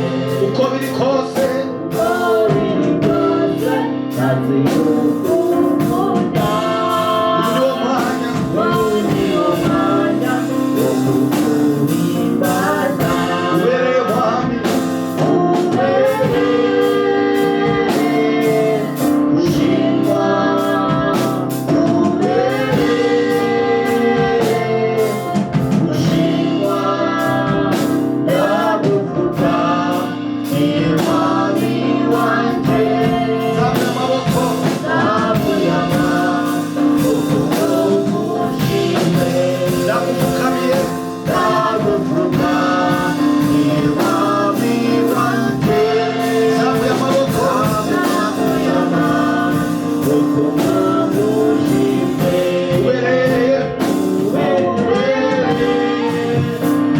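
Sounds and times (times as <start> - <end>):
band with steady beat: 0.0 - 56.9
worship team singing: 0.0 - 56.9.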